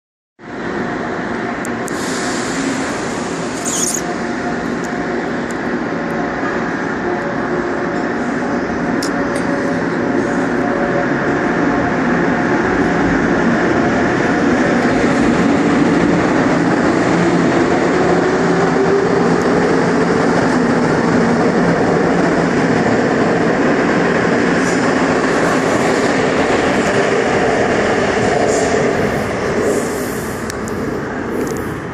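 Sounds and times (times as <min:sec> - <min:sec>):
train wheels on track: 0:00.4 - 0:31.9.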